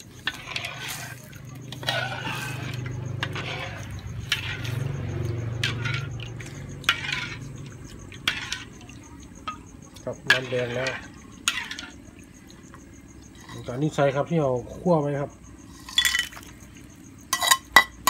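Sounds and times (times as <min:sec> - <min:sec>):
metal spatula scraping wok: 0:00.0 - 0:14.5, 0:15.6 - 0:18.0
sugar bubbling: 0:00.0 - 0:14.8, 0:15.6 - 0:18.0.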